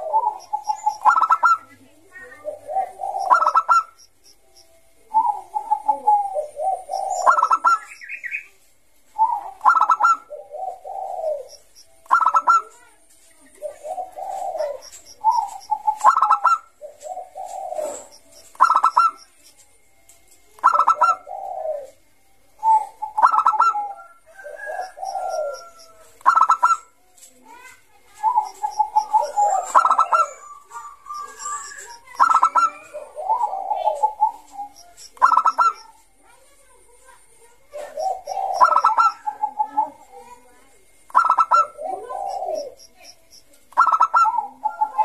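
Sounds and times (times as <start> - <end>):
dove cooing: 0.0 - 4.1, 5.0 - 8.5, 9.1 - 19.4, 20.6 - 36.2, 36.8 - 45.0.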